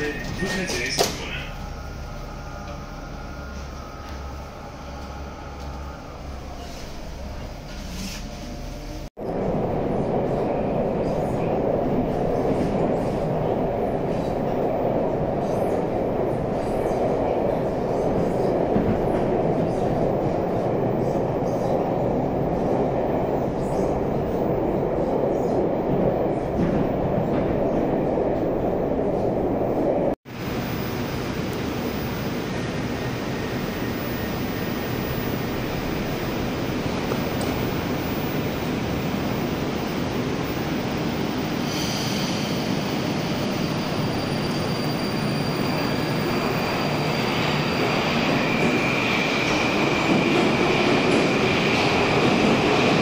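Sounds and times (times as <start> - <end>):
metro train rumbling in tunnel: 0.0 - 53.0
train at station platform: 0.0 - 53.0.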